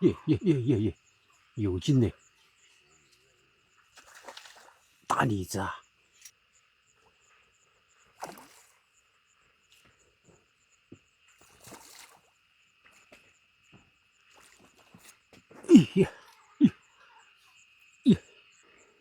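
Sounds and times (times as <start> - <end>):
night insects chirring: 0.0 - 19.0.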